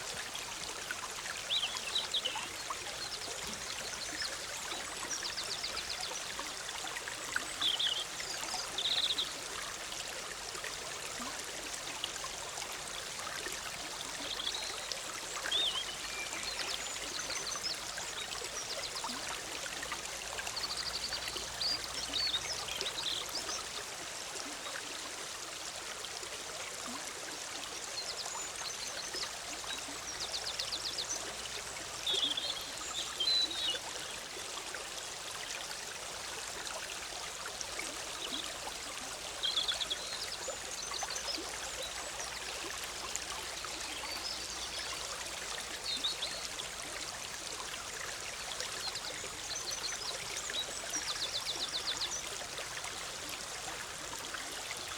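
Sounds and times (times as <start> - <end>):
stream bubbling over rocks: 0.0 - 54.9.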